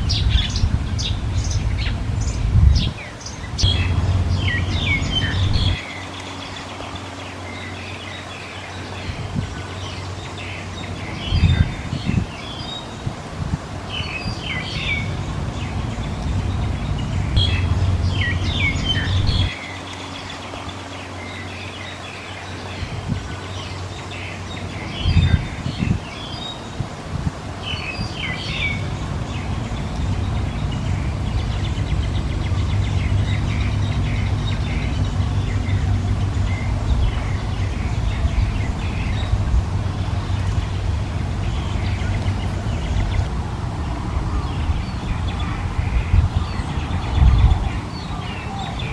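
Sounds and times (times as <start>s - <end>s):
low steady rumble: 0.0s - 48.9s
small birds chirping: 0.0s - 48.9s.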